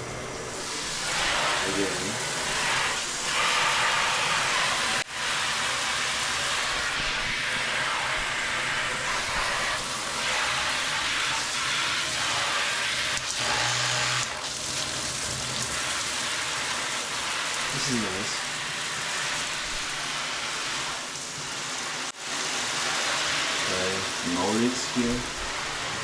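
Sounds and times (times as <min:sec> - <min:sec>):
shower spraying into bathtub: 0:00.0 - 0:26.0.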